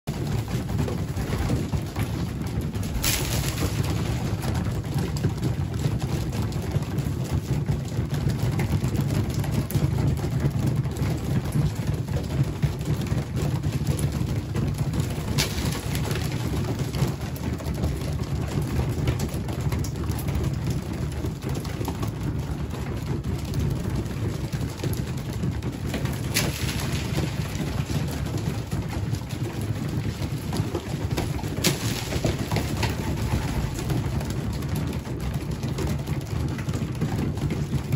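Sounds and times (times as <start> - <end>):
pigeons pecking at food: 0.1 - 37.9.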